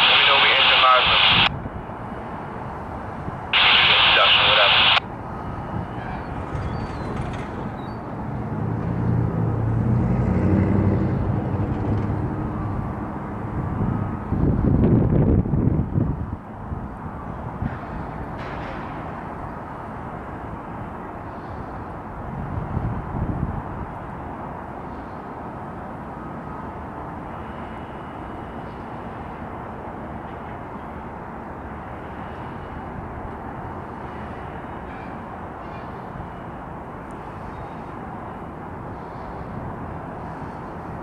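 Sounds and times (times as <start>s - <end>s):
diesel locomotive engine drone: 0.0s - 41.0s.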